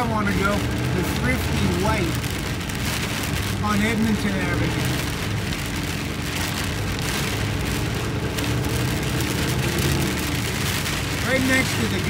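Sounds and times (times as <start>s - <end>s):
car hum on wet road: 0.0s - 12.0s
heavy rain drumming on car roof: 0.0s - 12.0s.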